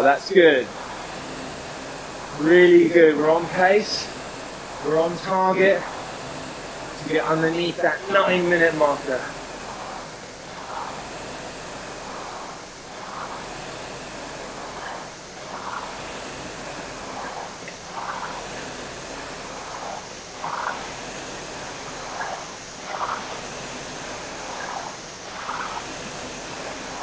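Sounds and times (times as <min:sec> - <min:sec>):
rowing machine fan whooshing: 0:00.0 - 0:27.0.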